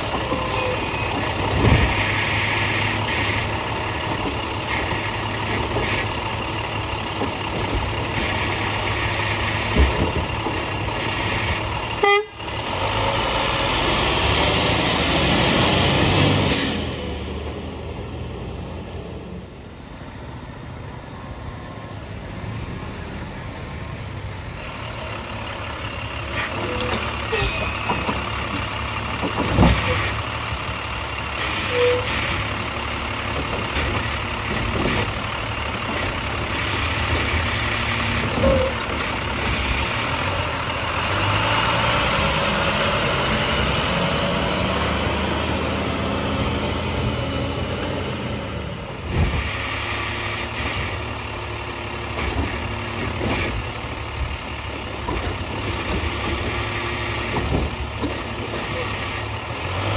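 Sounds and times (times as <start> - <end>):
diesel engine revving: 0.0 - 19.6, 22.2 - 59.9.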